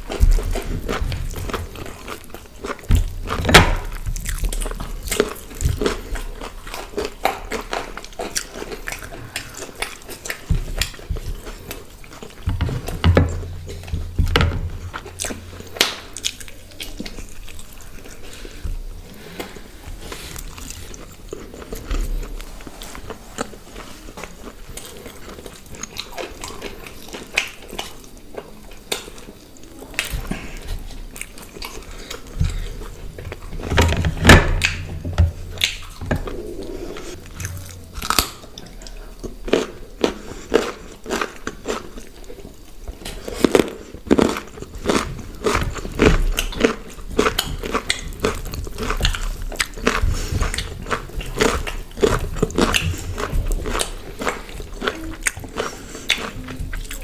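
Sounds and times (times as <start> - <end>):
food crunching: 0.0 - 57.0
person chewing food: 0.0 - 57.0.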